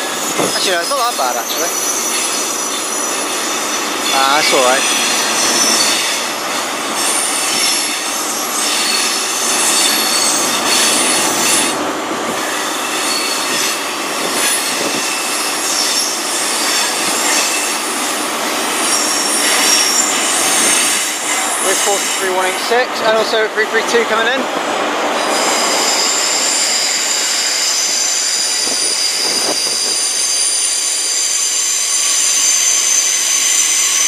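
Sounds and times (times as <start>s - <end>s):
train wheels squealing: 0.0s - 22.5s, 25.2s - 34.0s
moving train running noise: 0.0s - 34.0s.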